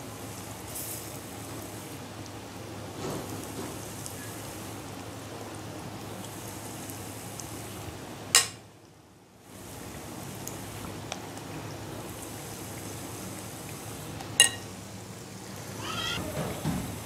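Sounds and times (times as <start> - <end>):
batter sizzling in hot oil: 0.0 - 8.5, 9.4 - 15.7.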